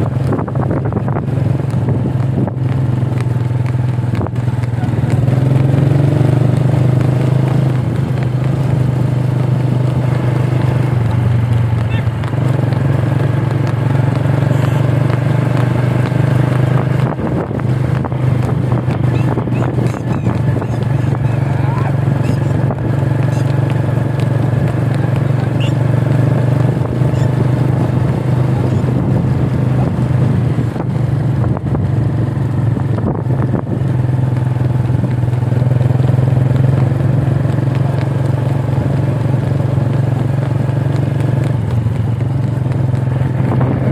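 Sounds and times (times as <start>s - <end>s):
small motorcycle engine running: 0.0s - 43.9s.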